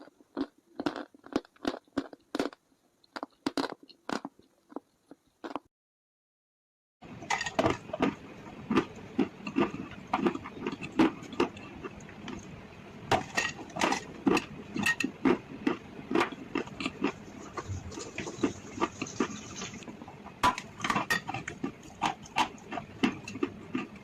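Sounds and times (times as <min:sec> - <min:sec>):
crunching and chewing: 0:00.0 - 0:05.6, 0:07.3 - 0:24.0.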